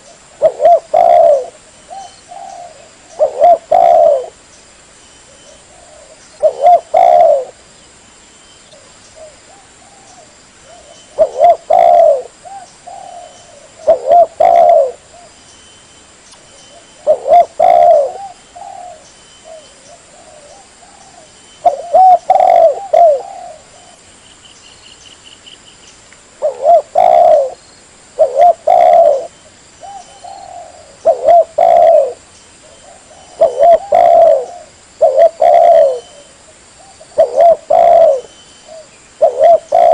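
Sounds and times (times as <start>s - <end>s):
dove cooing: 0.0s - 4.4s, 5.3s - 7.6s, 8.8s - 15.4s, 16.6s - 24.0s, 26.4s - 27.6s, 28.2s - 39.9s.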